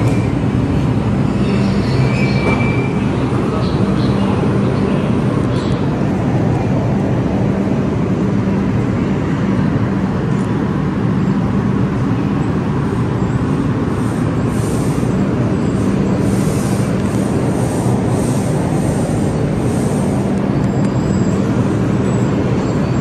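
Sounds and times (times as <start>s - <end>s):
subway train pulling into station: 0.0s - 23.0s.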